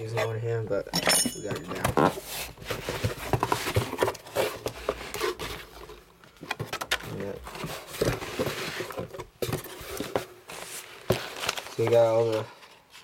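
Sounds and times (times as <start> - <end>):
packaging rustling and crinkling: 1.6 - 13.0.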